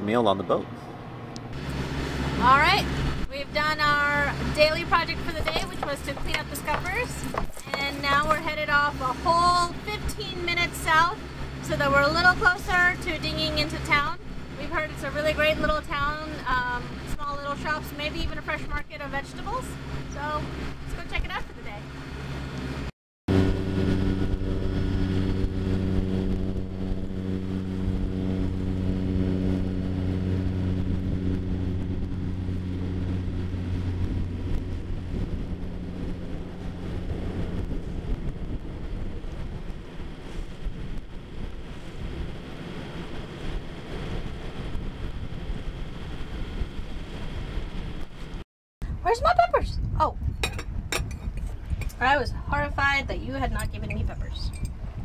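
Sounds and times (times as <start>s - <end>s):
boat engine humming: 0.0s - 49.5s
wind and water rushing: 1.5s - 49.1s.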